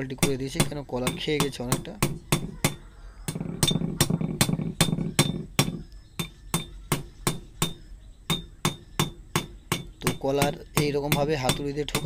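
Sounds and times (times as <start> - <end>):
hammer striking metal: 0.2 - 12.0.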